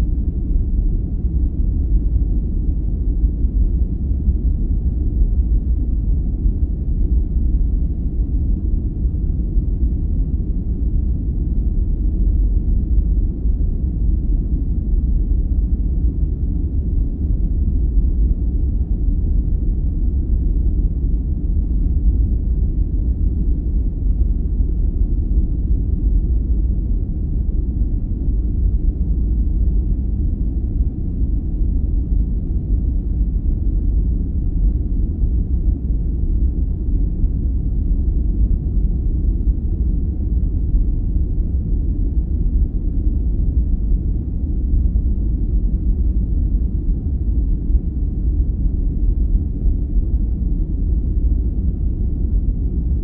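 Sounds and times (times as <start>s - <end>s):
deep muffled rumble noise: 0.0s - 53.0s.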